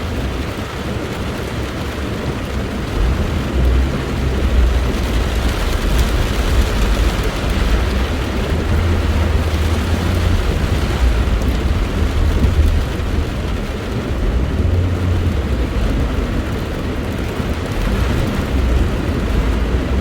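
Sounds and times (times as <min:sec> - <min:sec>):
rain hissing: 0:00.2 - 0:20.0
thunder rumbling: 0:02.5 - 0:20.0.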